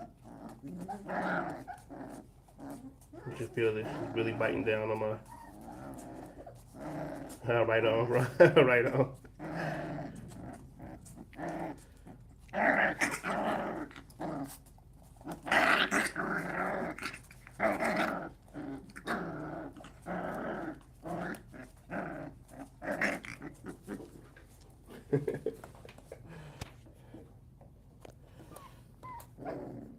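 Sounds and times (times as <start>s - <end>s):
puppy growling: 0.0s - 25.4s, 26.1s - 29.9s.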